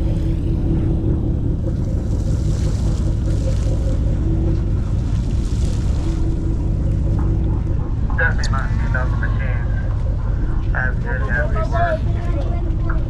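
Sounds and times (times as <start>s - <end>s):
boat engine rumbling: 0.0s - 13.0s
sea wash: 0.0s - 13.0s.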